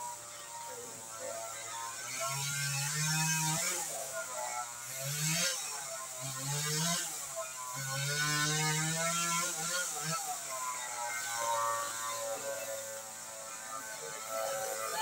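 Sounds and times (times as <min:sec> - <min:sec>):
distant chainsaw revving: 0:00.0 - 0:15.0.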